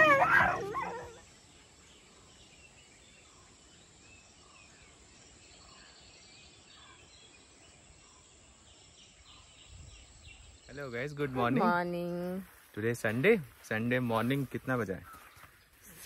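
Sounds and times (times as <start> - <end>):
distant birds calling: 0.0 - 11.8, 13.2 - 16.0.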